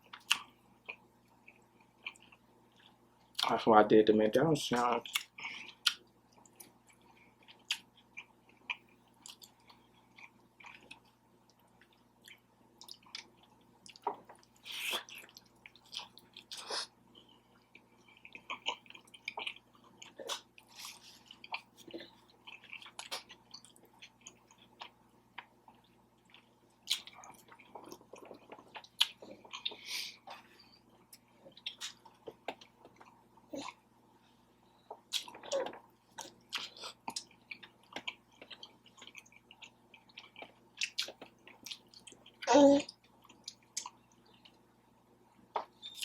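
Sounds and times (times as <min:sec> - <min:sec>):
person chewing and smacking: 0:00.0 - 0:03.6, 0:04.8 - 0:33.9, 0:34.8 - 0:44.7.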